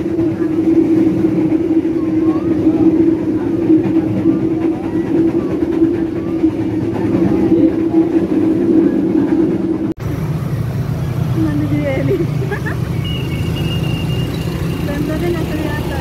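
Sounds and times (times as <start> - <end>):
steady background noise: 0.0 - 16.0
train rumbling inside carriage: 0.0 - 16.0.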